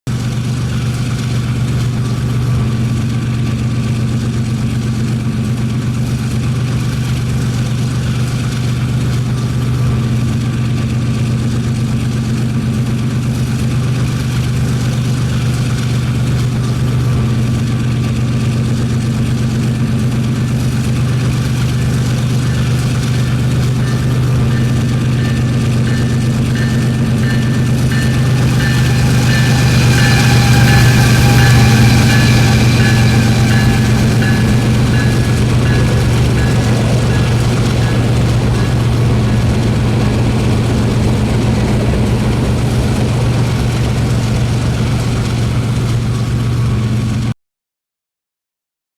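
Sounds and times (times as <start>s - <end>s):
diesel locomotive engine droning: 0.1s - 47.3s.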